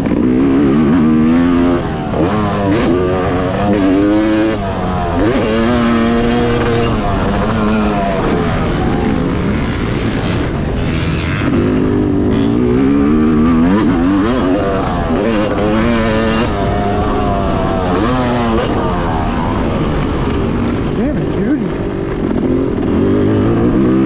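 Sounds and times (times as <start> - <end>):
motocross engine revving: 0.0 - 24.0.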